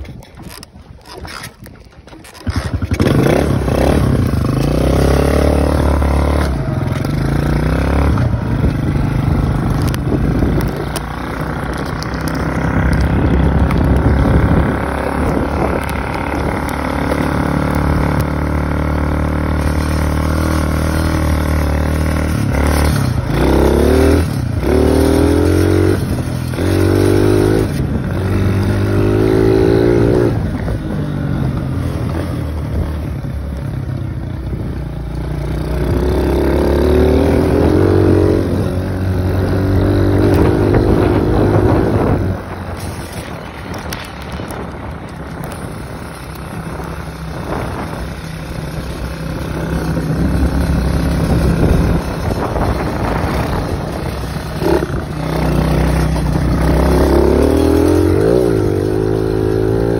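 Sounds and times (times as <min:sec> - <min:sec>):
dirt bike engine revving: 0:02.3 - 0:33.3, 0:35.2 - 0:59.9.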